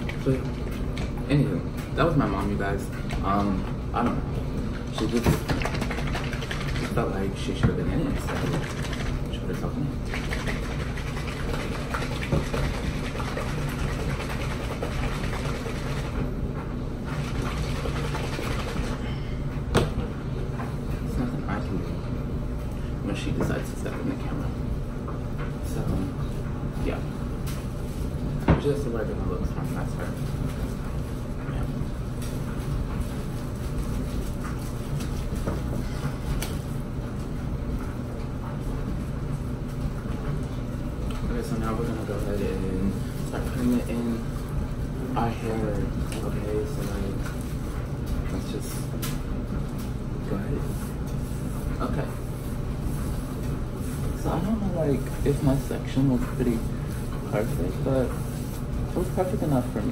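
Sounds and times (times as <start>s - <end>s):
laundry machine rumbling: 0.0s - 59.9s.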